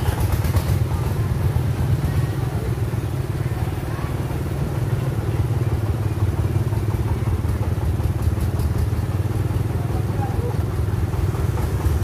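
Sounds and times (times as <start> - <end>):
diesel engine chugging: 0.0 - 12.0.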